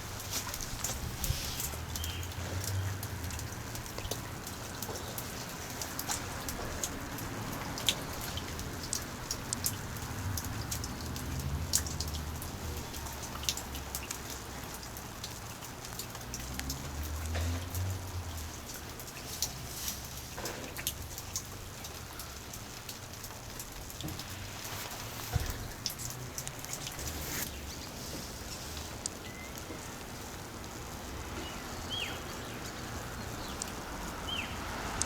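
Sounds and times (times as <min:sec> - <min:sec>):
raindrops ticking on hard surface: 0:00.0 - 0:35.0
steady rain hiss: 0:00.0 - 0:35.0.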